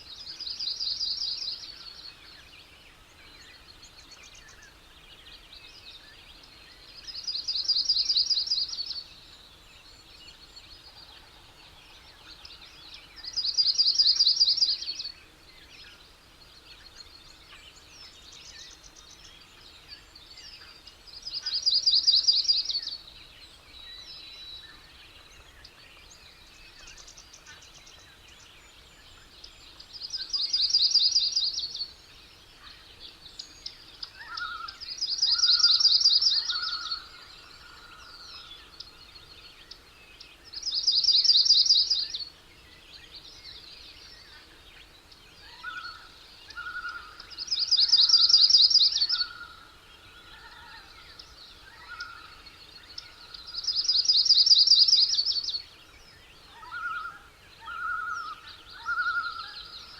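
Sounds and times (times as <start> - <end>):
faint outdoor ambience: 0.0 - 59.9.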